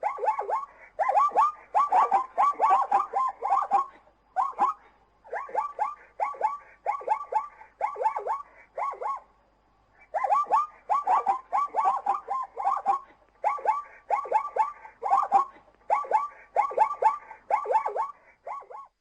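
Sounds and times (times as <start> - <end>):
zebra yelping barks: 0.0 - 9.3, 10.0 - 18.9.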